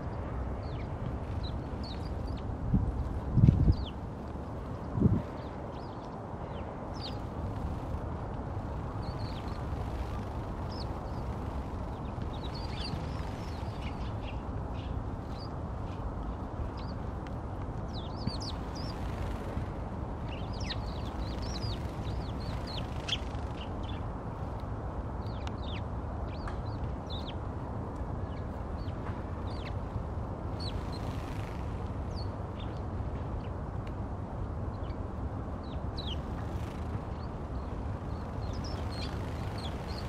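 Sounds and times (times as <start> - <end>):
sparrows chirping: 0.0 - 8.0, 8.6 - 17.2, 17.9 - 24.1, 25.2 - 27.5, 28.2 - 32.8, 35.6 - 40.0
low background rumble: 0.0 - 40.0.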